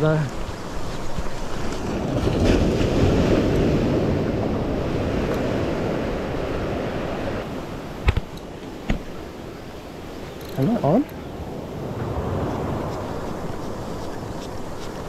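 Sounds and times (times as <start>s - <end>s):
small waves washing: 0.0s - 15.0s
wind on microphone: 0.0s - 15.0s.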